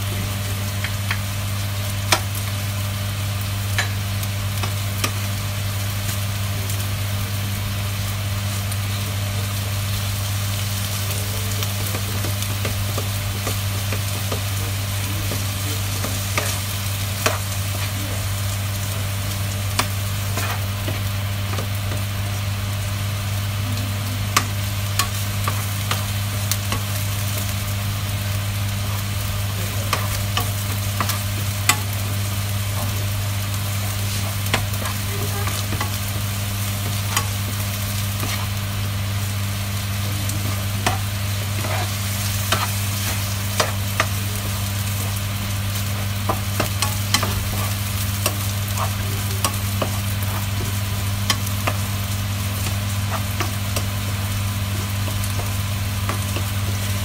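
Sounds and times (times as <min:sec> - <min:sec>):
chicken sizzling in frying pan: 0:00.0 - 0:57.0
steady low hum: 0:00.0 - 0:57.0.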